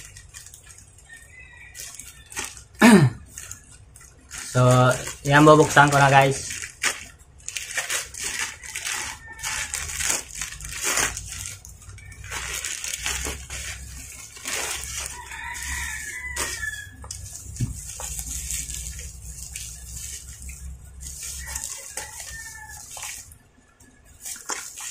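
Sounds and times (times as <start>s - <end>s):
plastic pouch crinkling: 0.0s - 24.9s.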